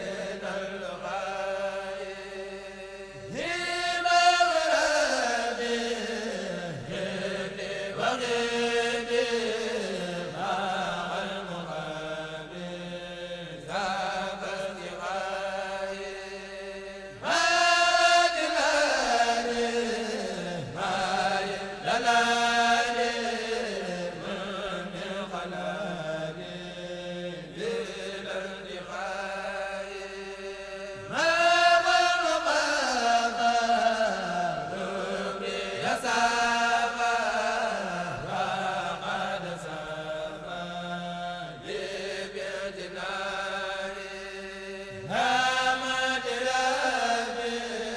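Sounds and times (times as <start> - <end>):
solo voice chanting: 0.0 - 47.9.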